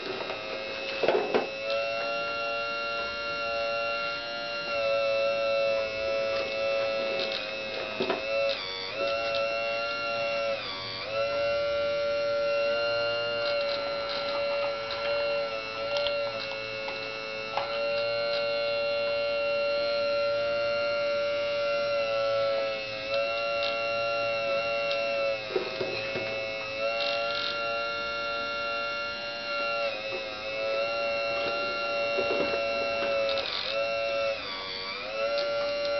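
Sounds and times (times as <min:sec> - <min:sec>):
pump motor high whine: 0:00.0 - 0:35.9.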